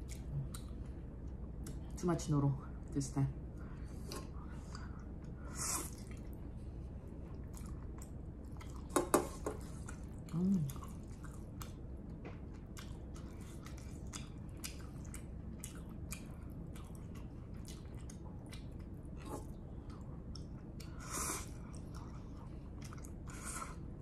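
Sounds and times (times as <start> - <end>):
person chewing noodles: 0.0 - 1.9, 3.7 - 24.0.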